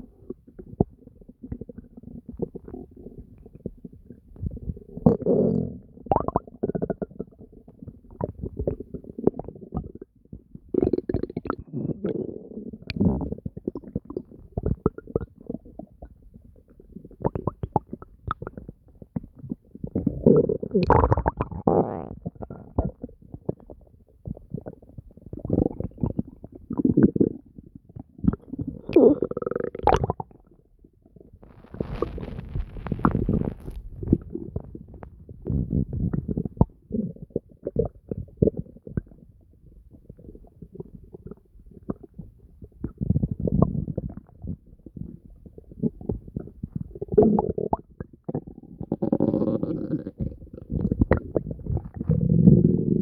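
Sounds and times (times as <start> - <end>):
stomach gurgling and rumbling: 0.0 - 53.0.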